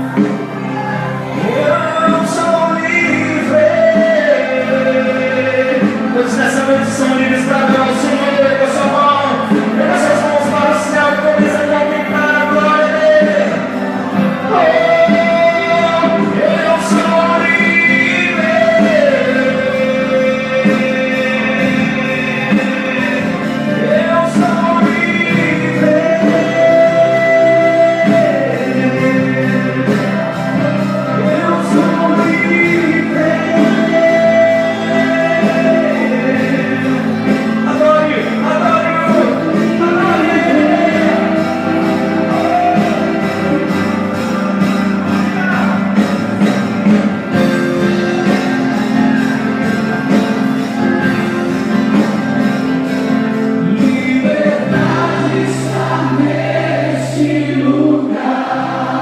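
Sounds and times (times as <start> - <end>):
person singing worship melody: 0.0 - 52.0, 52.6 - 59.0
backing band: 0.0 - 59.0.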